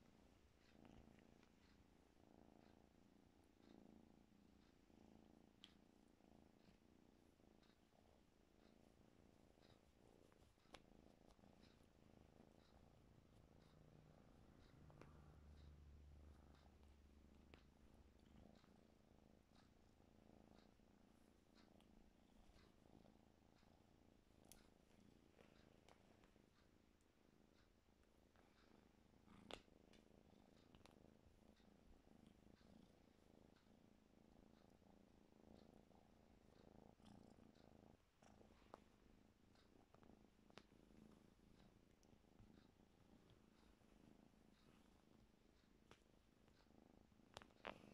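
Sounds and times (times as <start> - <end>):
kitten purring: 0.0 - 47.9
faint sharp clicks: 2.8 - 47.9.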